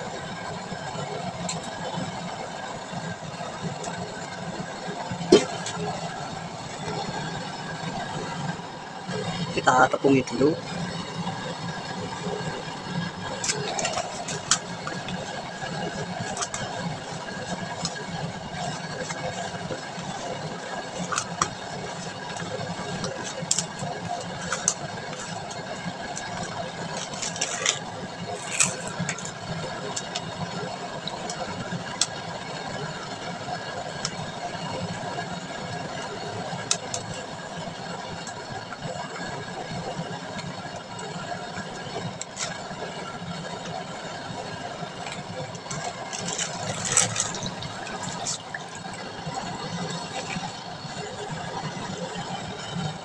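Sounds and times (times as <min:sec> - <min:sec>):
engine-like hum: 0:00.0 - 0:53.0.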